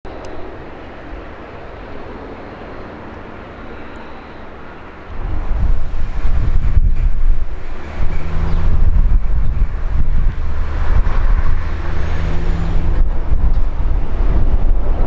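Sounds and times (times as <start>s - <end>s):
diesel train engine drone: 0.1s - 15.0s
wind rumble on microphone: 0.1s - 15.0s.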